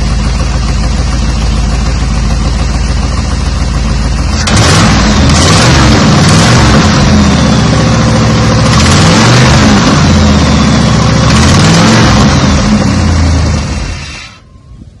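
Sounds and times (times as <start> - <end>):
loud car engine and exhaust: 0.0 - 15.0.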